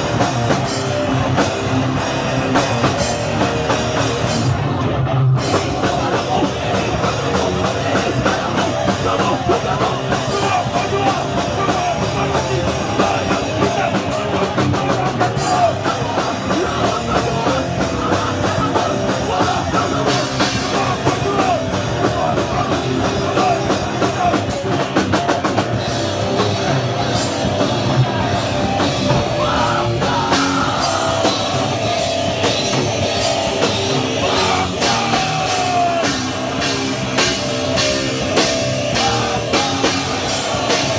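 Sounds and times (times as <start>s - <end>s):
distorted rock instruments: 0.0s - 40.9s
drum kit: 0.0s - 40.9s
hardcore band playing live: 0.0s - 40.9s.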